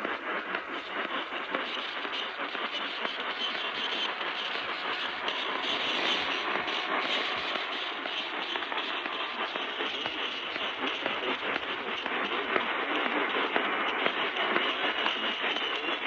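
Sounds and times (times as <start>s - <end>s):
radio static hiss and crackle: 0.0s - 16.0s.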